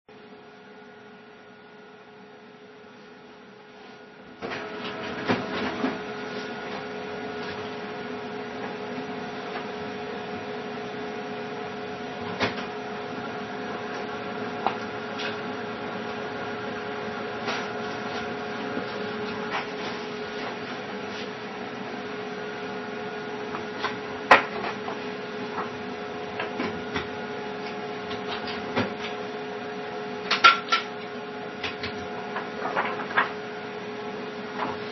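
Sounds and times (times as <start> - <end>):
machine hum with pitched tone: 0.1 - 34.9.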